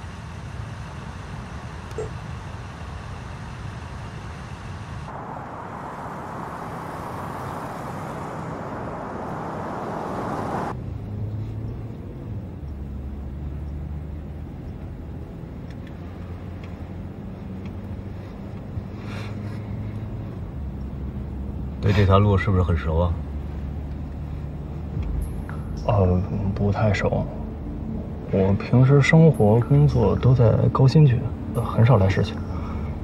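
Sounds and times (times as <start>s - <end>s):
low rumble inside car cabin: 0.0s - 11.1s, 11.7s - 33.0s
tyre and road noise: 0.0s - 33.0s.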